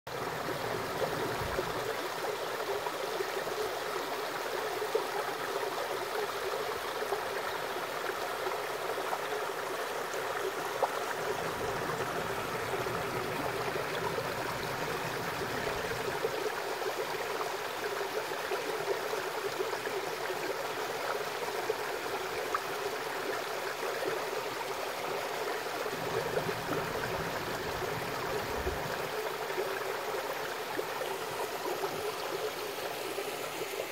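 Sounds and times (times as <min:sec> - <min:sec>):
stream water flowing over rocks: 0:00.1 - 0:33.9.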